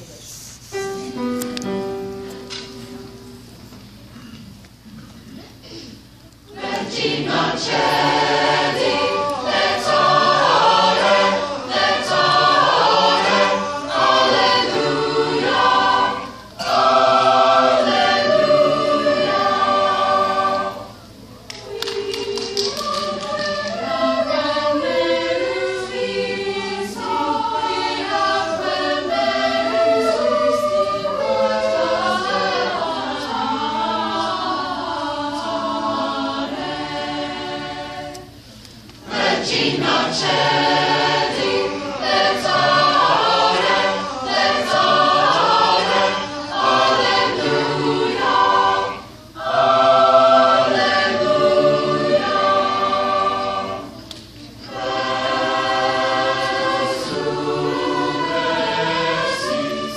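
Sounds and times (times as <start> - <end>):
choir singing: 6.5 - 59.9.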